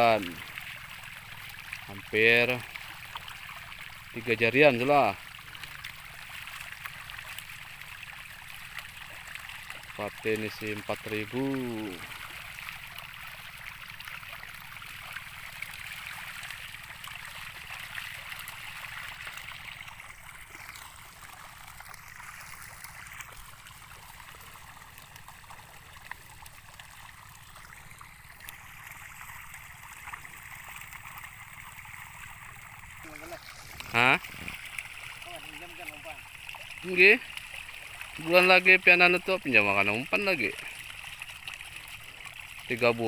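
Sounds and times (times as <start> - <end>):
fish splashing at the surface: 0.0 - 4.4, 5.1 - 43.0.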